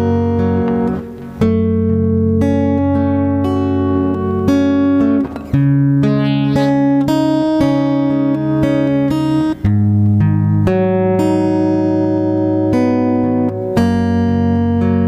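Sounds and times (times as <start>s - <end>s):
plucked guitar backing music: 0.0s - 15.0s.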